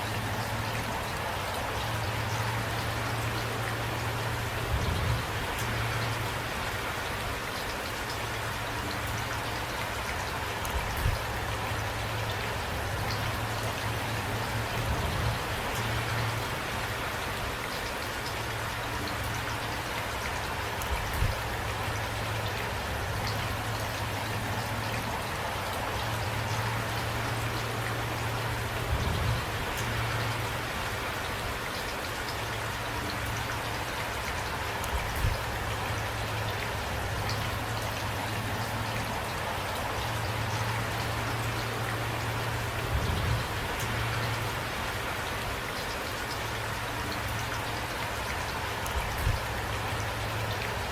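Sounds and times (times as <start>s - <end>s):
louder raindrops: 0.0s - 50.9s
steady rain: 0.0s - 50.9s.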